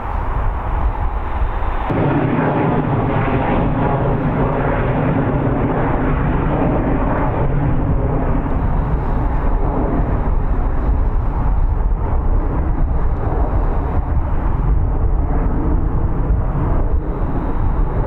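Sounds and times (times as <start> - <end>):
low rumble of airfield ambience: 0.0 - 18.0.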